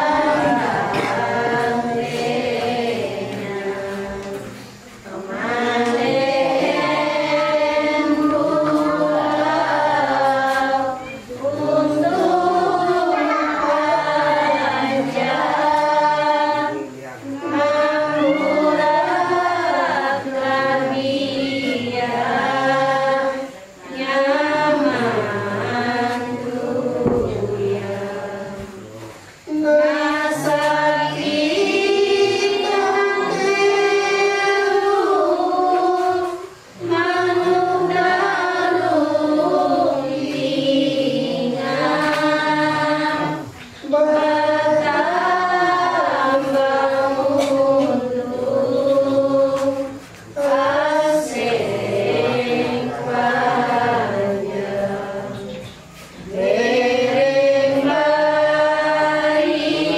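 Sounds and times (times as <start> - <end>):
congregation singing unaccompanied: 0.0 - 59.9.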